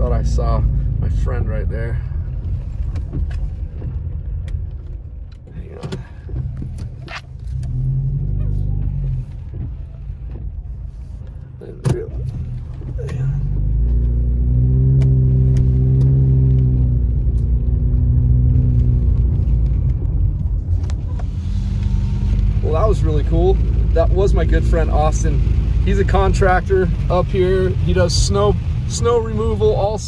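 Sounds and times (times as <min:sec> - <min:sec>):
car engine hum from inside: 0:00.0 - 0:30.0.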